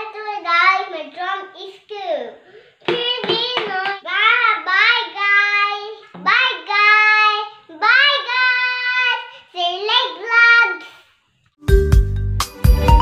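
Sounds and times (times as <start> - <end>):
girl singing: 0.0 - 10.9.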